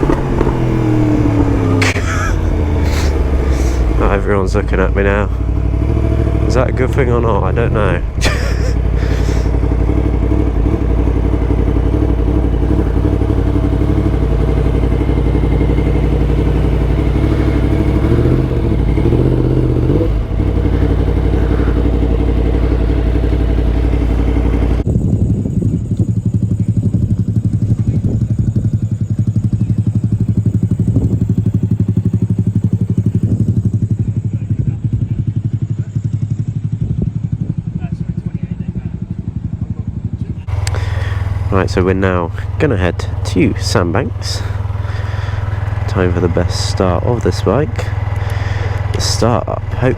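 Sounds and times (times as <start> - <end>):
motorcycle engine running: 0.0 - 49.9
rapid pulsing engine note: 0.0 - 49.9.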